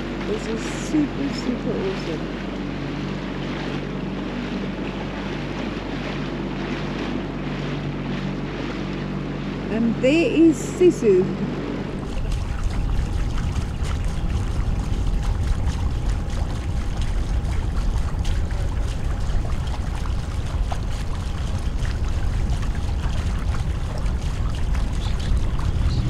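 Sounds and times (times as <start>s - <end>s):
small splashes: 0.0s - 26.0s
steady low rumble: 0.0s - 26.0s
water sloshing against boat hull: 0.0s - 26.0s.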